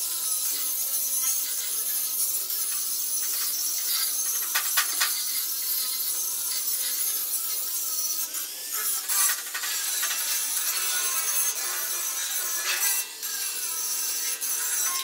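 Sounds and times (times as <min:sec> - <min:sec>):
metal being cut with hiss: 0:00.0 - 0:15.0.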